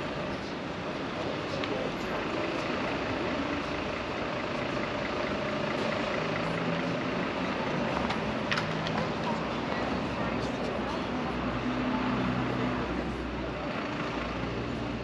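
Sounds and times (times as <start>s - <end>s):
bus engine idling: 0.0s - 15.0s
street traffic noise: 0.0s - 15.0s.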